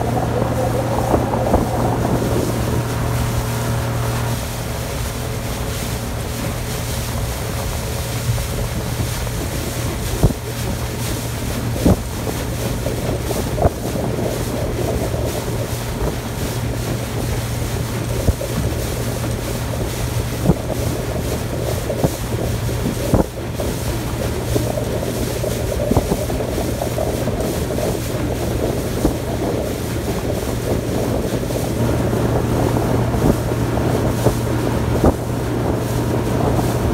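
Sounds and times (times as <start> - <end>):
motorboat engine hum: 0.0 - 36.9
wind rushing over microphone: 0.0 - 36.9.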